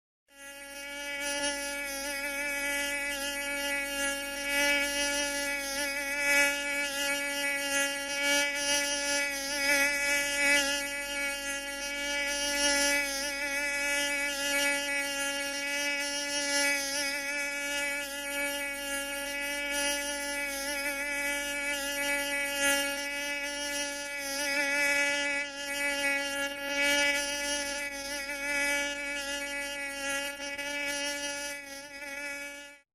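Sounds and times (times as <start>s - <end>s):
mosquito buzzing: 0.3s - 32.9s.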